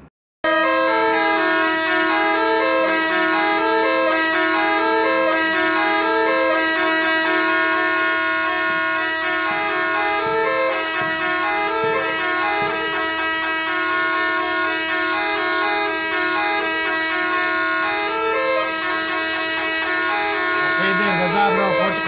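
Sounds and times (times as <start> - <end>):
wind instrument melody: 0.4 - 22.0
steady drone: 3.0 - 22.0.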